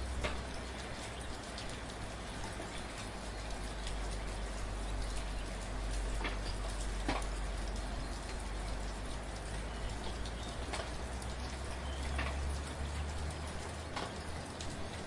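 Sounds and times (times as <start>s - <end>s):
raindrops ticking: 0.0s - 15.0s
soft rain pattering: 0.0s - 15.0s.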